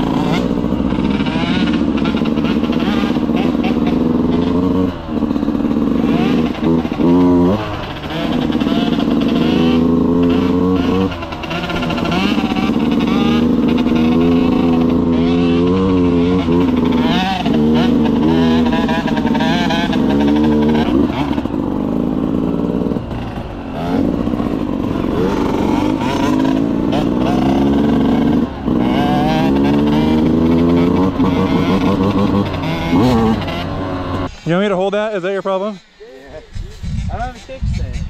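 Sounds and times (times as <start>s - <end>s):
dirt bike engine revving: 0.0s - 35.6s.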